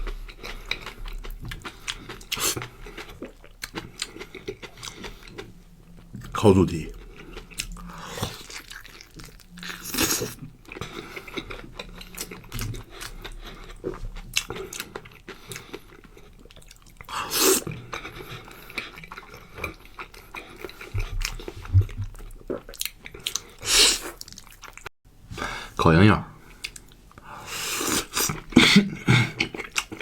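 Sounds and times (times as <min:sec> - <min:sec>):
wet chewing with smacks: 0:00.0 - 0:06.4, 0:07.0 - 0:24.9.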